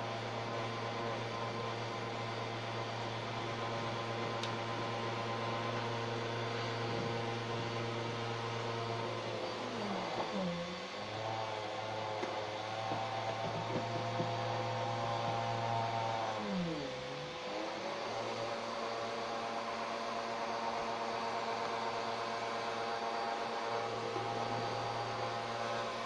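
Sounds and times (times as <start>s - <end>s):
vacuum cleaner motor running: 0.0s - 26.0s.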